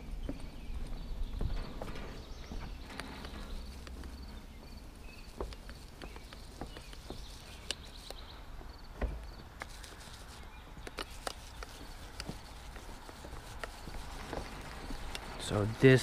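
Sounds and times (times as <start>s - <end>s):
footsteps on wooden boards: 0.0s - 16.0s.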